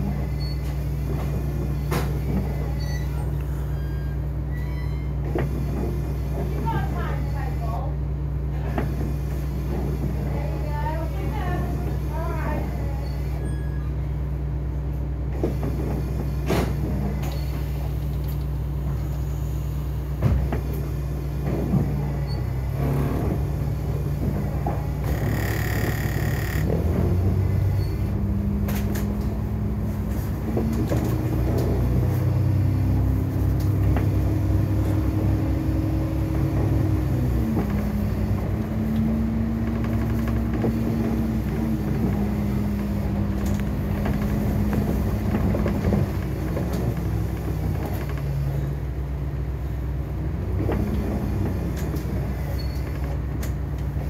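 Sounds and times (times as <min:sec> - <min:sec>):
bus diesel engine: 0:00.0 - 0:54.0.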